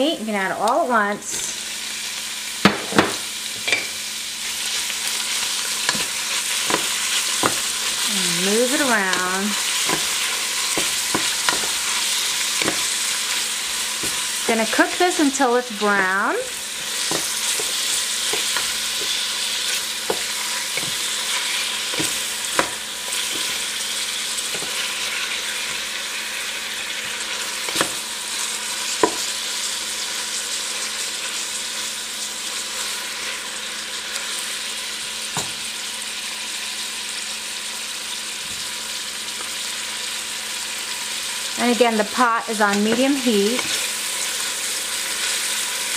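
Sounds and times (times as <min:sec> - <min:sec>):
meat and onion sizzling in oil: 0:00.0 - 0:45.9.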